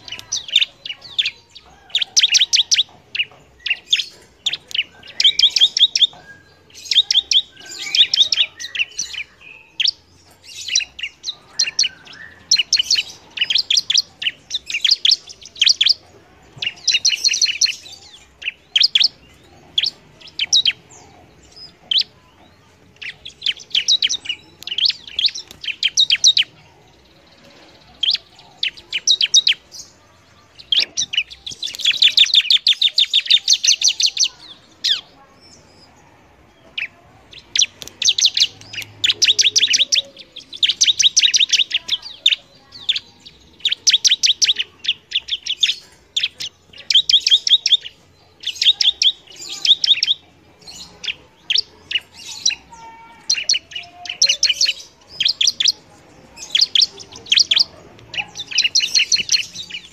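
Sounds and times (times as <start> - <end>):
bird rapid high chirps: 0.0 - 35.8, 36.7 - 59.9.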